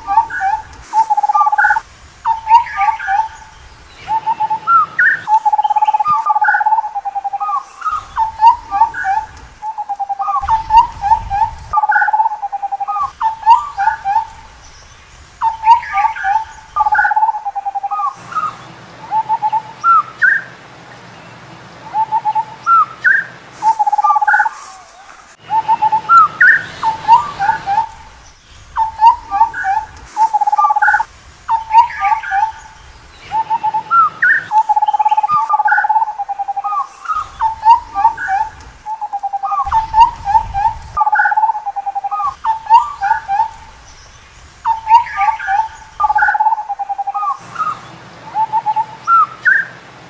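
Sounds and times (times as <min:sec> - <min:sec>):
bird bubbling trill: 0:00.0 - 0:18.5, 0:25.5 - 0:47.8
bird whistled hoots: 0:00.0 - 0:20.5, 0:21.9 - 0:49.8.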